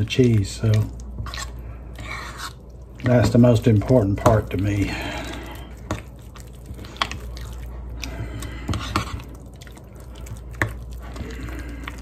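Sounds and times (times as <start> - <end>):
spoon stirring thick mix: 0.0 - 12.0.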